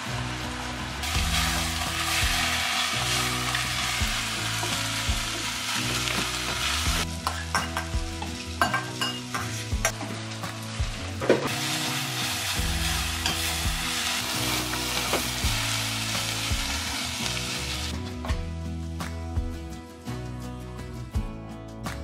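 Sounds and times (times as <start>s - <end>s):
onions sizzling in a pot: 0.0s - 18.0s.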